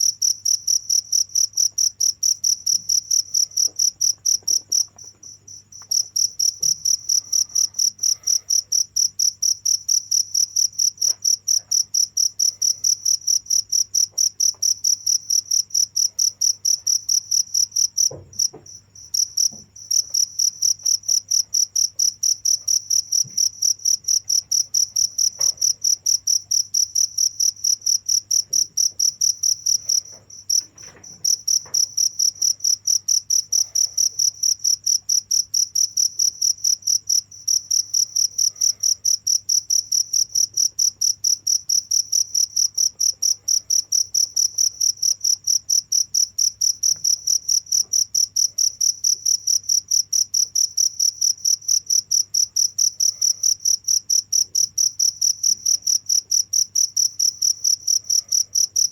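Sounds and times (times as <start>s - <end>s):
cricket chirping: 0.0s - 58.9s.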